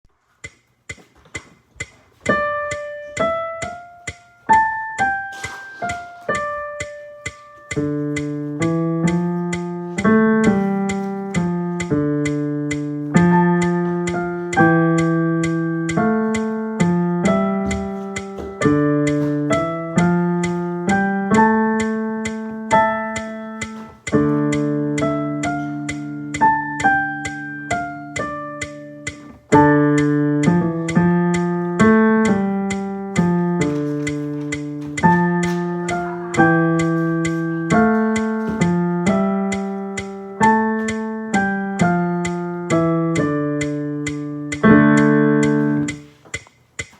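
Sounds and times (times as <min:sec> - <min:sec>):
faint metronome ticks: 0:00.3 - 0:46.9
slow piano melody: 0:01.4 - 0:46.4.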